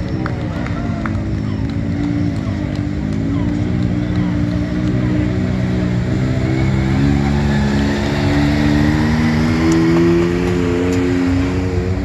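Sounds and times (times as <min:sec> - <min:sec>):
several rally engines running: 0:00.0 - 0:12.0.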